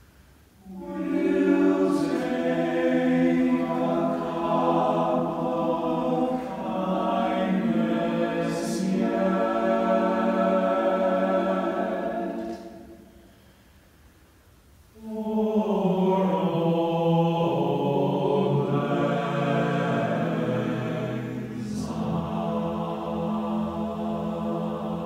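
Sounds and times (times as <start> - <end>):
male choir singing a cappella: 0.6 - 13.2, 15.0 - 25.0.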